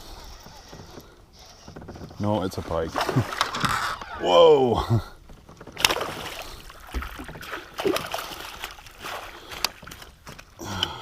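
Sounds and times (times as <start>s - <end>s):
water noise: 0.0s - 11.0s.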